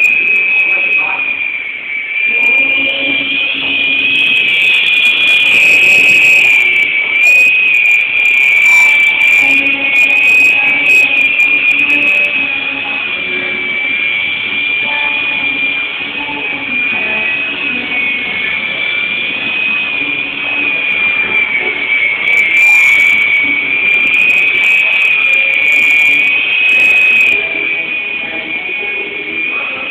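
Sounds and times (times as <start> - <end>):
toy helicopter motor whine: 0.0 - 29.8.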